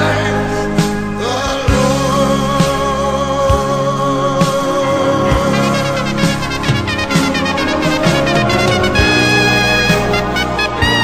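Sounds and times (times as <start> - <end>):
gospel music: 0.0 - 11.0.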